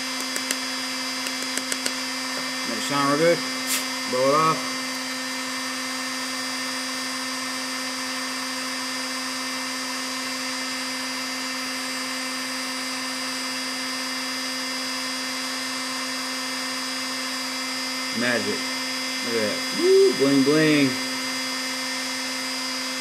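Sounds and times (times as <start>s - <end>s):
heat gun blower whirring: 0.0s - 23.0s.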